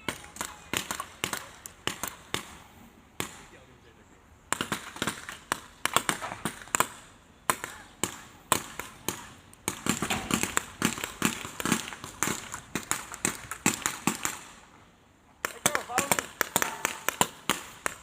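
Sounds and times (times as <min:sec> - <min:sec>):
airsoft guns firing: 0:00.0 - 0:03.6, 0:04.5 - 0:14.7, 0:15.4 - 0:18.0.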